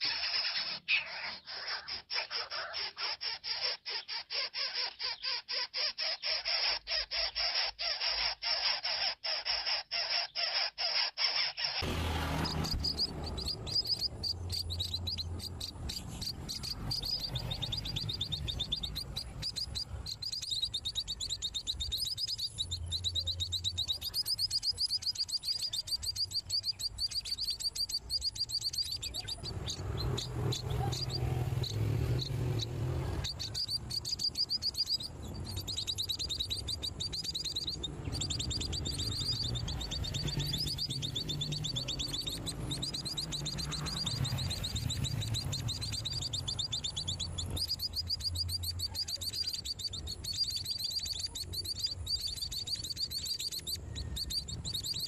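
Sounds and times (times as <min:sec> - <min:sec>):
nestlings chirping: 0:00.0 - 0:55.0.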